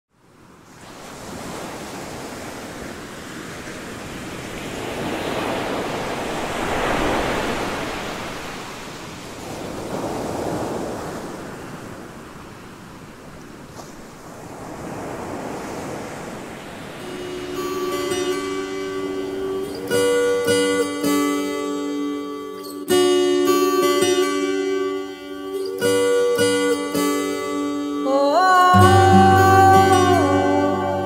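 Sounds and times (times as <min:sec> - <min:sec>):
ocean waves breaking: 0:00.4 - 0:31.0.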